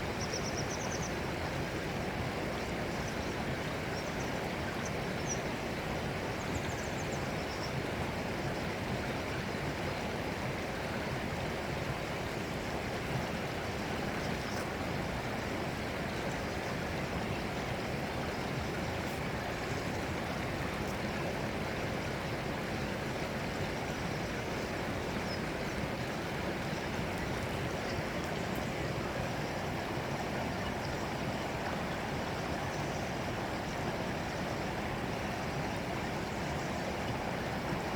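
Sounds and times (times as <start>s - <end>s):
running water rushing: 1.1s - 37.9s.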